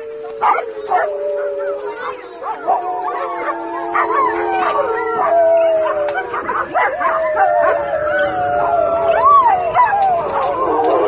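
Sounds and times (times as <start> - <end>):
dogs howling in chorus: 0.0 - 11.0
dogs yipping and barking: 0.0 - 11.0.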